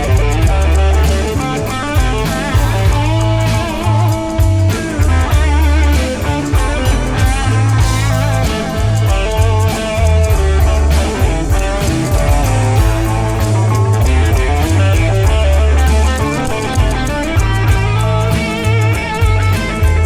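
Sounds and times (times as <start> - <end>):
bass line: 0.0 - 20.0
drums: 0.0 - 20.0
electric guitar lead: 0.0 - 20.0.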